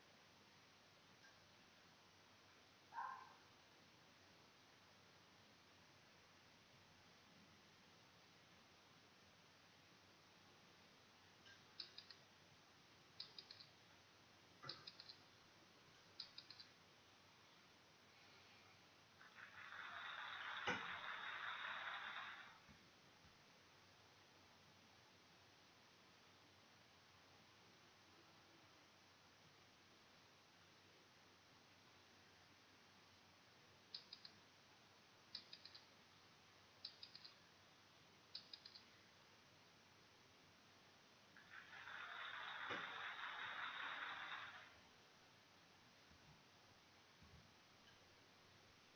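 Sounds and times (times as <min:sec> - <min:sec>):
faint hiss: 0:00.0 - 0:48.9.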